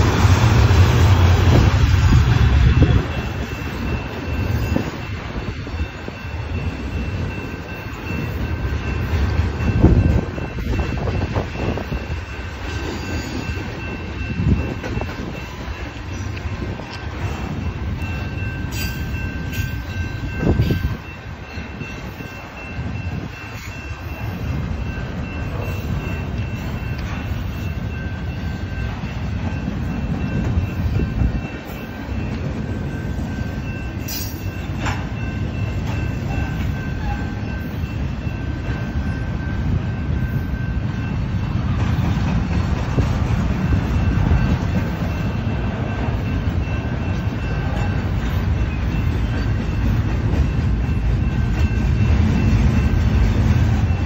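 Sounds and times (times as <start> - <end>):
steel train wheels rumbling on rails: 0.0 - 54.0.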